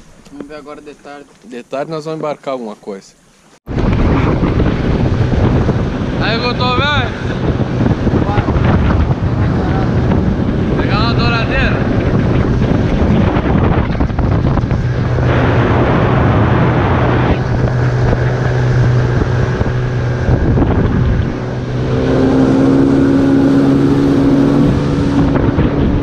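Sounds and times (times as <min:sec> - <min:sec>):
outboard motor humming: 0:03.7 - 0:26.0
wind buffeting microphone: 0:03.7 - 0:26.0.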